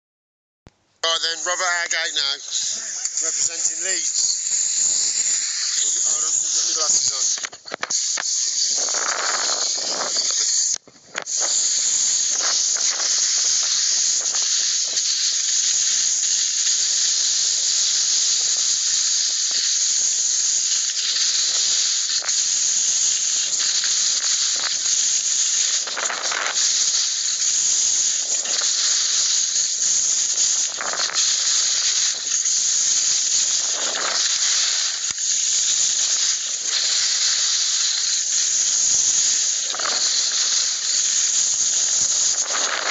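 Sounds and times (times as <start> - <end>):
high-pitched hiss: 1.0 - 42.9.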